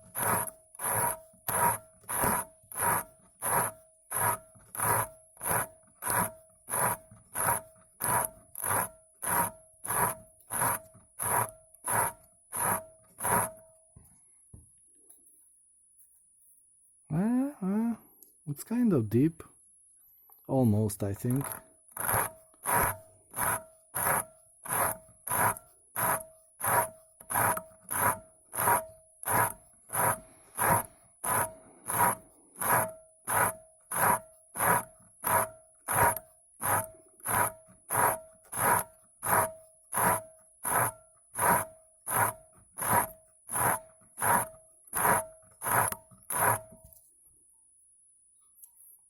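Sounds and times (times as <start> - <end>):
cutting tool scraping glass bulb: 0.0 - 13.6, 21.1 - 46.9.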